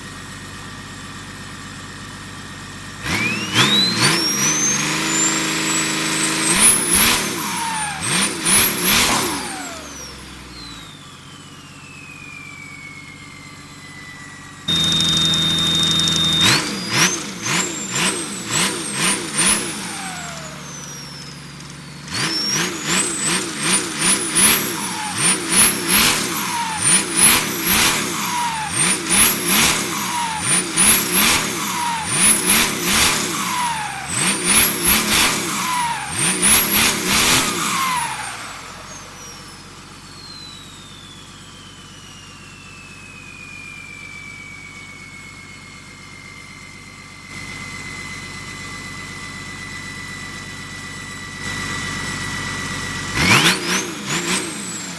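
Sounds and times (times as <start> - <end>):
turbocharged engine revving: 2.7 - 43.2, 44.0 - 54.9
turbo whistle: 3.1 - 48.8.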